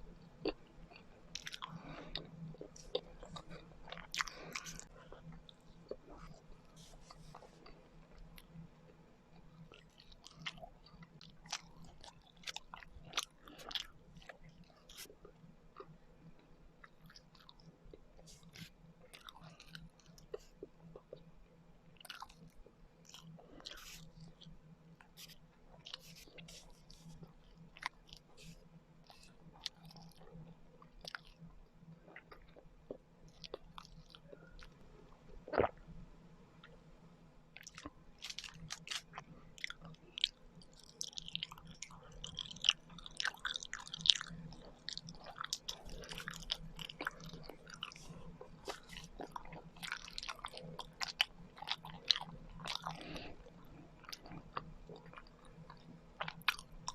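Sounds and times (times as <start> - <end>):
chewing and biting: 0.2 - 21.3, 22.0 - 35.8, 37.6 - 56.9.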